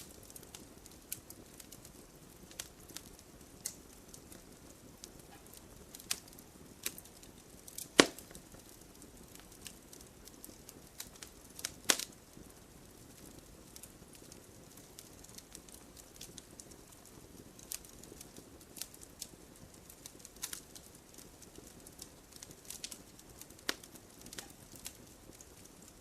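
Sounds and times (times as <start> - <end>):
sharp fire pops: 0.0 - 26.0
wood fire crackling: 0.0 - 26.0.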